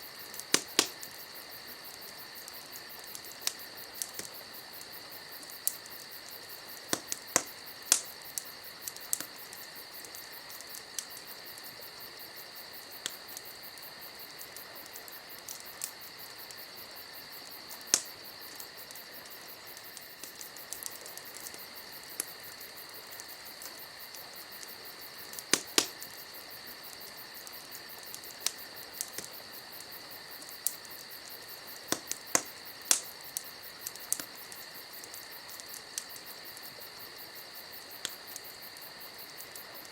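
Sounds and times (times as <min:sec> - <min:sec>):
campfire crackling and popping: 0:00.0 - 0:39.9
crickets chirring: 0:00.0 - 0:39.9.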